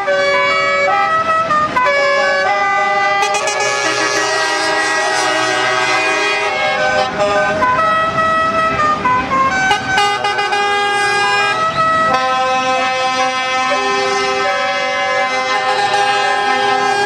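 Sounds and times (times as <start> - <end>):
truck air horns playing a tune: 0.0 - 17.0.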